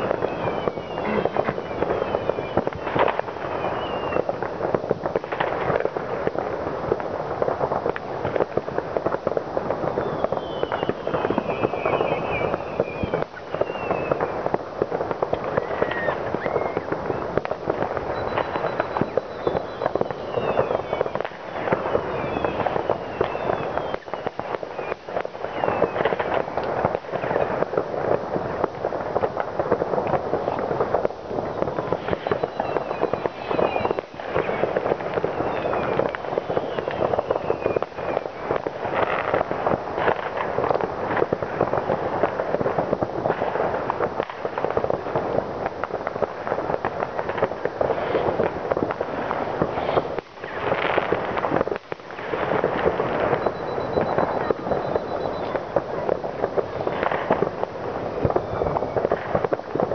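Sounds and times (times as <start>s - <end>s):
falling firework whistles: 0.0s - 59.9s
firecrackers crackling: 0.0s - 59.9s
rocket bangs: 0.0s - 59.9s.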